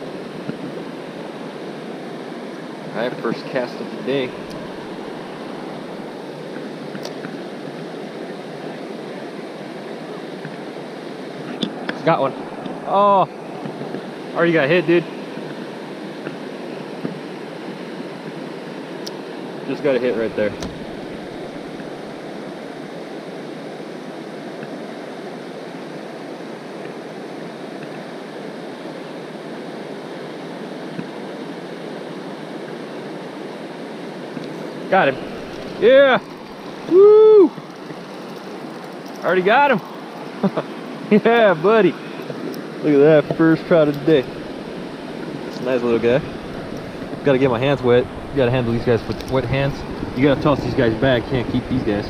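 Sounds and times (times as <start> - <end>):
river rushing over rocks: 0.0 - 52.0.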